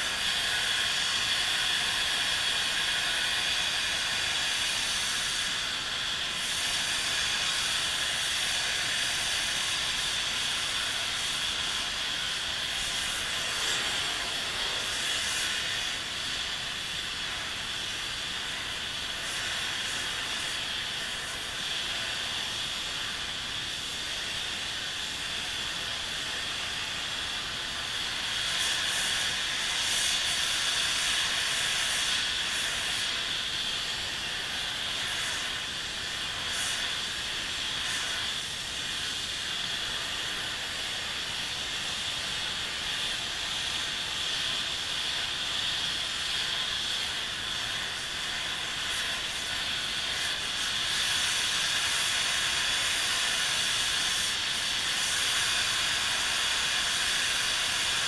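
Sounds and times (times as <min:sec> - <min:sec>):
steady hissing noise: 0:00.0 - 0:58.0.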